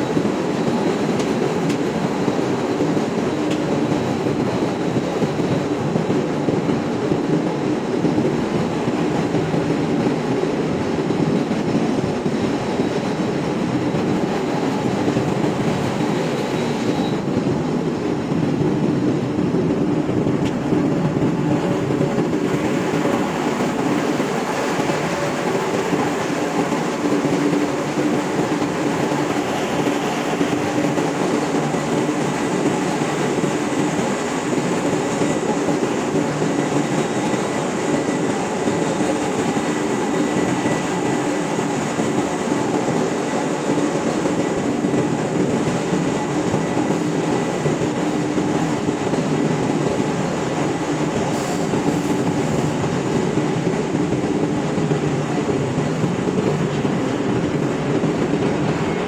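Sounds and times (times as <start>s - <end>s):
engine room machinery drone: 0.0s - 59.0s.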